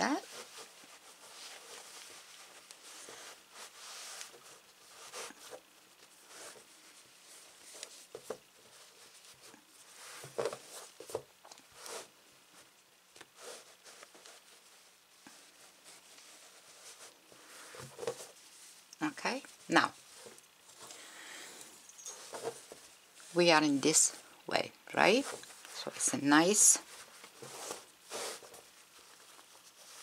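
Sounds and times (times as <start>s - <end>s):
fabric rustling: 0.0s - 30.0s.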